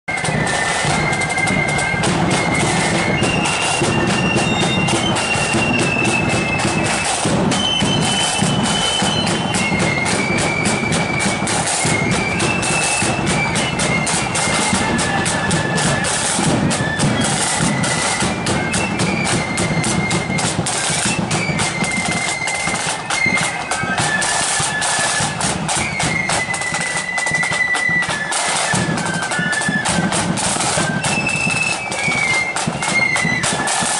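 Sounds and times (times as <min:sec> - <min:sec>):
flutes playing melody: 0:00.1 - 0:33.9
rapid snare drum: 0:00.1 - 0:33.9.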